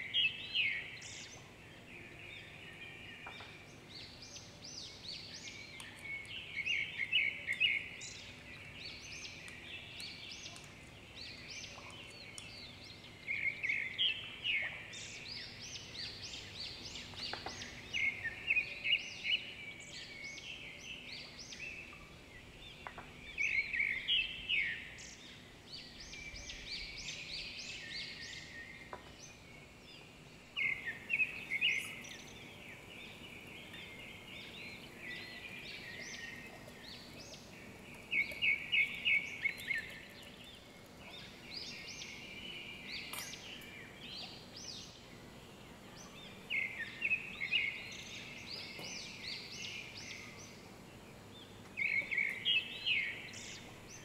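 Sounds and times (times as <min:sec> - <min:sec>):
bird chirping: 0:00.0 - 0:54.0
faint background noise: 0:00.0 - 0:54.0.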